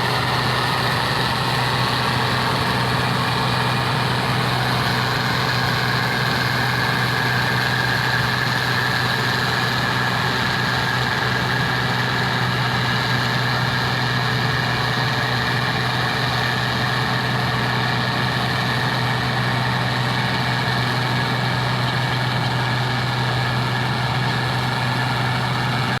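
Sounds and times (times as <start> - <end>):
farm machinery engine running: 0.0 - 26.0.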